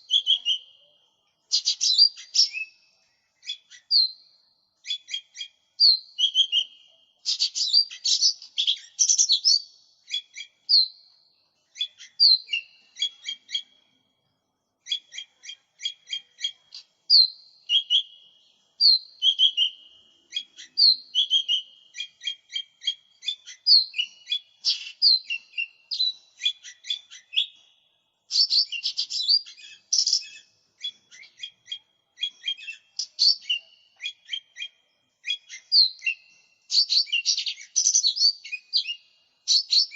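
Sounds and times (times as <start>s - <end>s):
bird singing high chirps: 0.0s - 14.1s, 14.8s - 39.9s.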